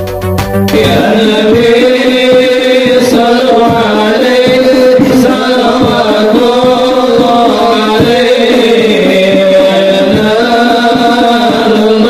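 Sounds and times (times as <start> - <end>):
frame drum strokes: 0.0 - 12.0.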